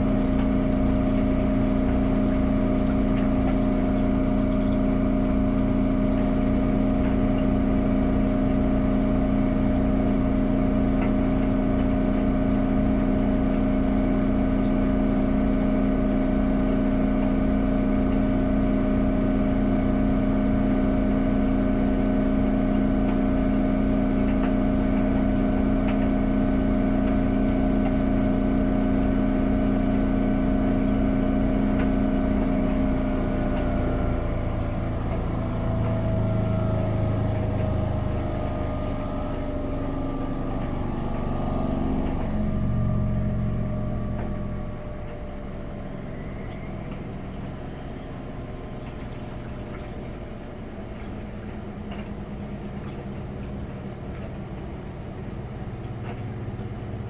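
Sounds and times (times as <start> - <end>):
low steady hum: 0.0 - 57.0
washing machine spin whine: 0.0 - 57.0.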